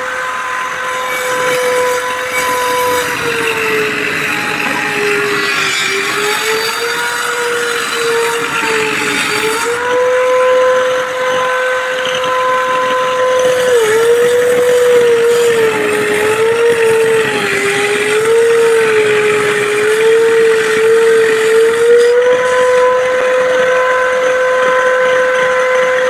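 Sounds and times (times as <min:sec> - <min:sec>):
power tool motor whining: 0:00.0 - 0:26.0.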